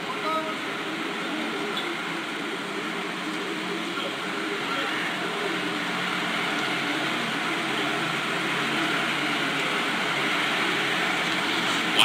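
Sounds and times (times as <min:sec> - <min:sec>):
stadium crowd ambience: 0:00.0 - 0:12.0.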